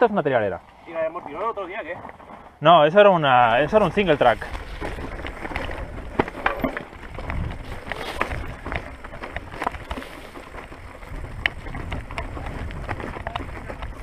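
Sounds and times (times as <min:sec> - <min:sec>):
stones and bike rattling: 0:00.0 - 0:14.0.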